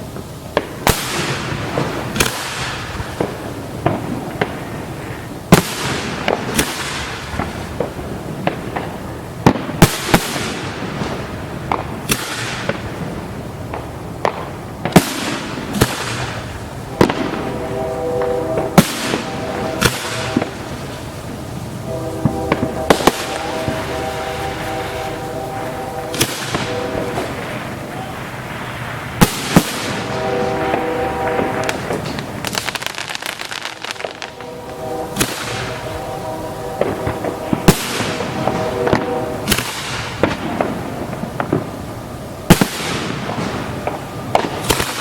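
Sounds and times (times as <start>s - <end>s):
crackling hiss of bursts: 0.0s - 45.0s
firework shells booming: 0.5s - 41.8s.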